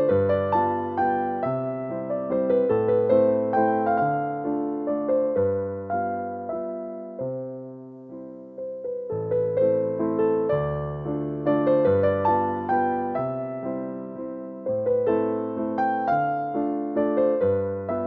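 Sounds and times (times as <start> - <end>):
gentle solo piano melody: 0.0 - 18.0.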